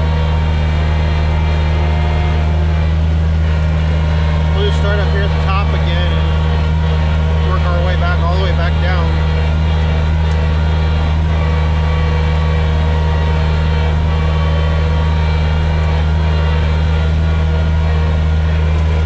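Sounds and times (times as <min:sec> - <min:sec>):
diesel engine running under load: 0:00.0 - 0:19.0
snow blower through packed snow: 0:00.0 - 0:19.0.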